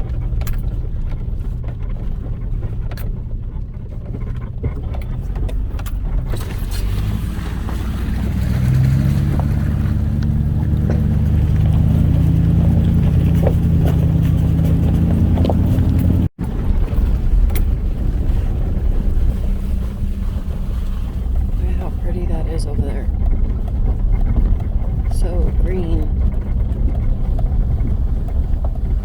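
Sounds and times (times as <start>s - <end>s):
vehicle engine driving slowly: 0.0s - 29.0s.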